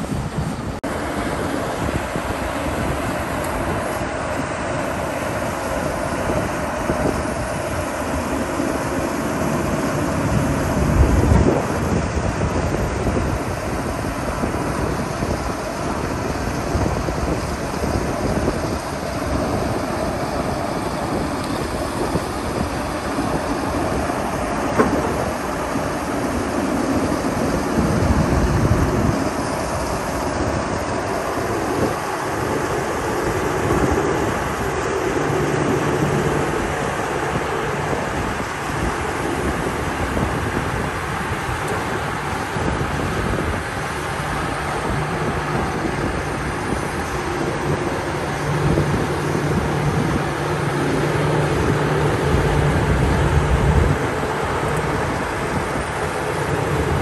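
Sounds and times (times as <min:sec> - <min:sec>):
excavator engine rumbling: 0:00.0 - 0:57.0.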